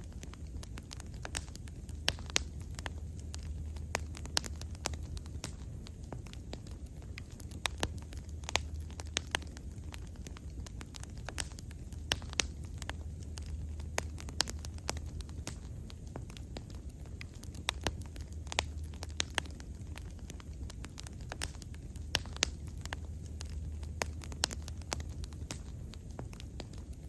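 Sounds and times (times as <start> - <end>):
bonfire crackling: 0.0 - 27.0.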